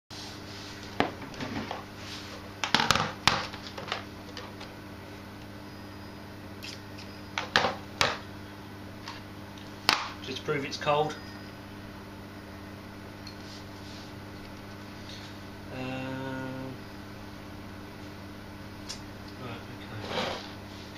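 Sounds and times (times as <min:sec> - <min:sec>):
steady low hum: 0:00.1 - 0:20.9.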